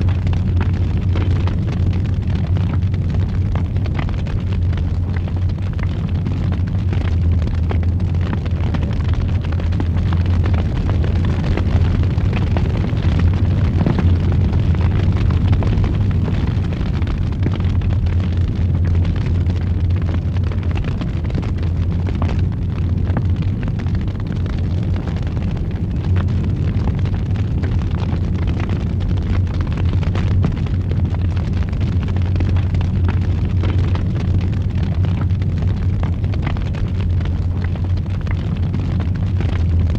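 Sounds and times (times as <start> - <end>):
fire crackling and popping: 0.0 - 39.9
fire roaring: 0.0 - 39.9.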